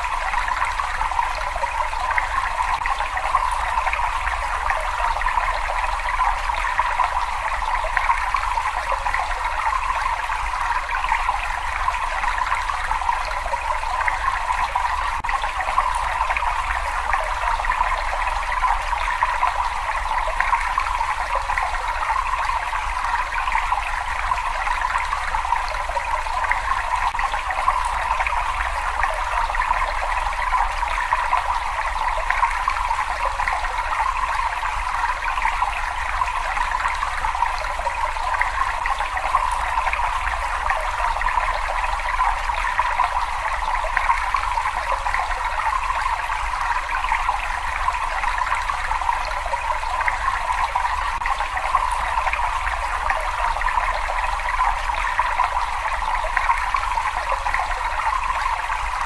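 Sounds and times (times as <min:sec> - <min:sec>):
cave water trickling: 0:00.0 - 0:59.0.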